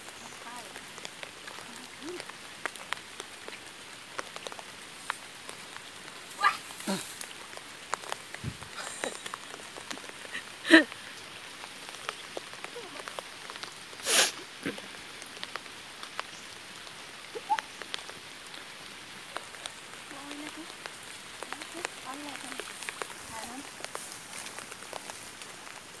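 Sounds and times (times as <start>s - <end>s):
light rain pattering: 0.0s - 26.0s.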